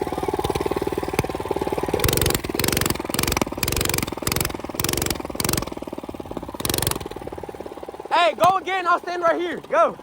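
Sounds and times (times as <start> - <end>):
minibike engine running: 0.0 - 10.0.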